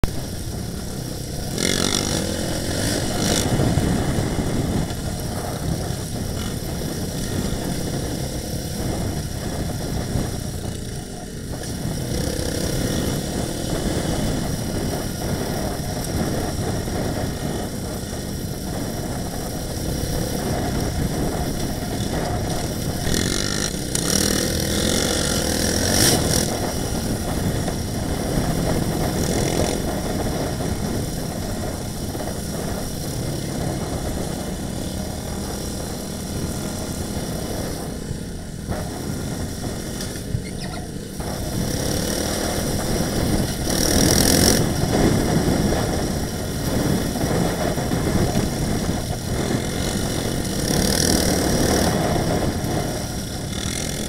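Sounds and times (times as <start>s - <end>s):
off-road vehicle engine on gravel: 0.0s - 54.0s
quad engines: 0.0s - 54.0s.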